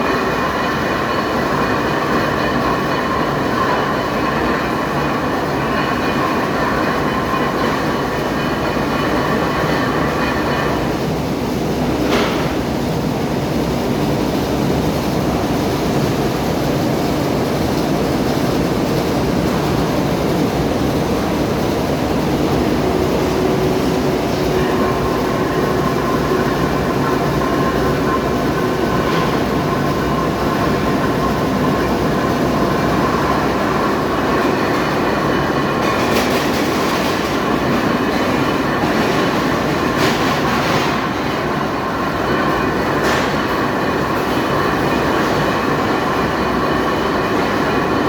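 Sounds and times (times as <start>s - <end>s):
lathe cutting metal rumble: 0.0s - 48.0s.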